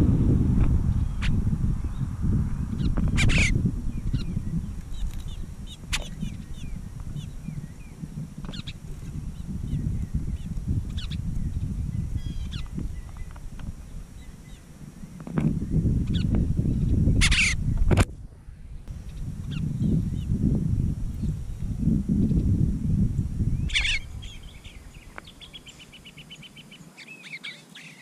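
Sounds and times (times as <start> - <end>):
wind rumble on microphone: 0.0 - 26.8
small birds chirping: 0.9 - 18.0, 18.8 - 22.6, 23.4 - 28.0.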